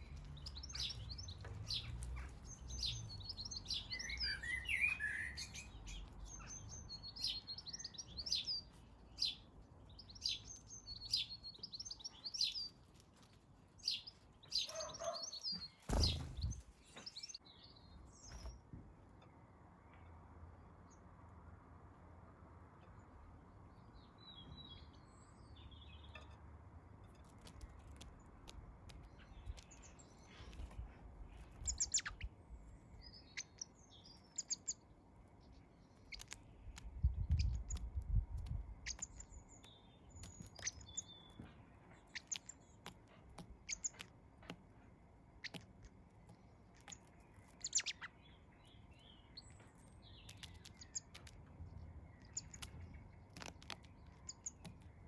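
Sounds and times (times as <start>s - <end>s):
small birds chirping: 0.0s - 20.1s, 22.8s - 55.0s.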